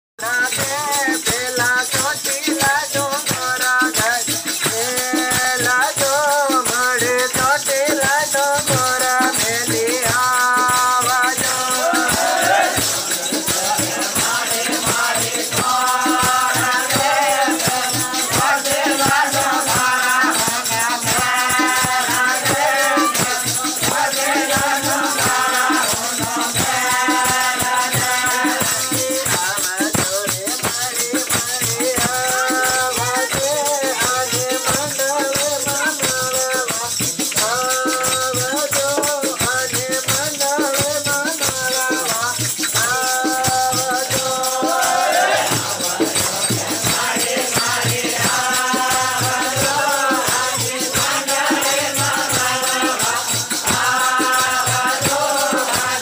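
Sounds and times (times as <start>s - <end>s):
rattle shaken rhythmically: 0.2s - 56.0s
voices singing devotional song: 0.2s - 56.0s.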